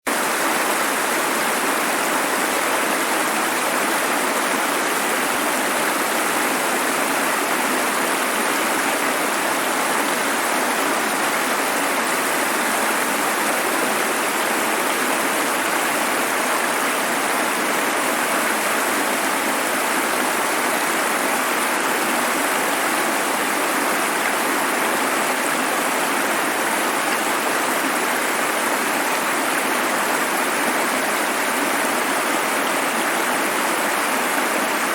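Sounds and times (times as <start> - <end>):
running water: 0.1 - 34.9.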